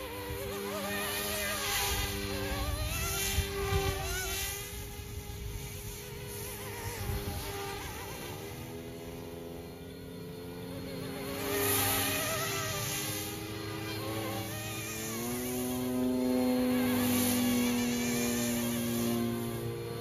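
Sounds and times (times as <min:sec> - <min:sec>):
rc helicopter rotor whine: 0:00.0 - 0:20.0.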